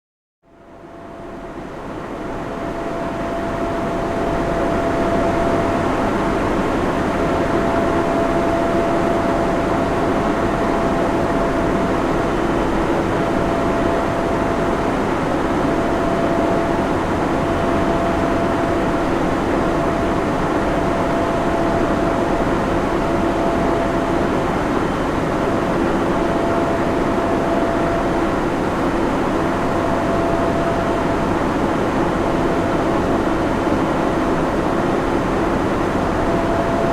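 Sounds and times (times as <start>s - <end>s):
faint steady whine: 0.5s - 36.9s
cooling fans rushing: 0.7s - 36.9s.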